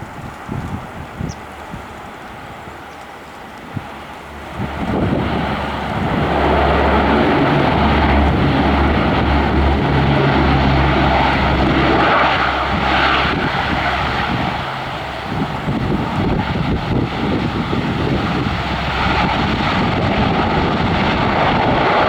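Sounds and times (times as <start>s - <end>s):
aircraft engines passing: 0.0s - 22.0s.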